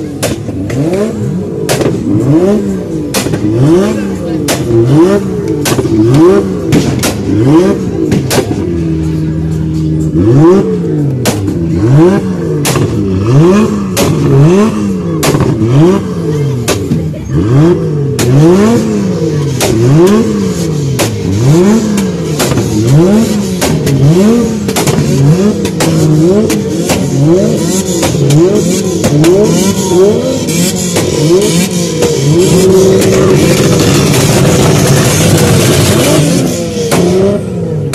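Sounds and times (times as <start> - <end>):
exhaust pops: 0.0 - 9.7, 12.6 - 17.2, 19.5 - 29.8, 30.4 - 37.9
car engine revving: 0.0 - 37.9.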